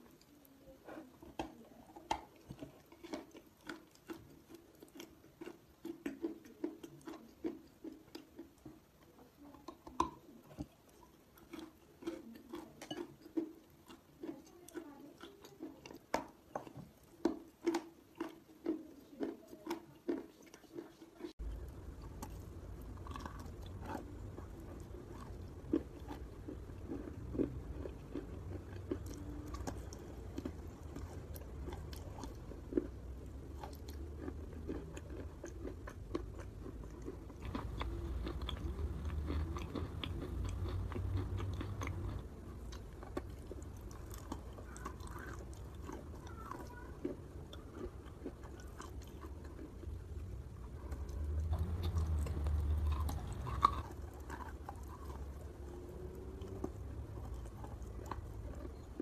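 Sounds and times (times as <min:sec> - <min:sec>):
chewing wet chalk: 0:00.0 - 0:59.0.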